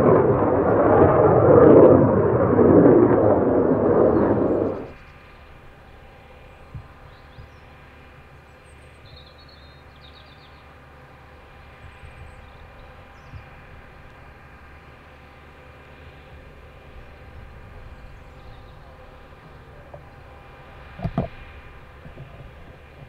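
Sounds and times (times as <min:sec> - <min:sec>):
distant machinery hum: 0:00.0 - 0:23.0.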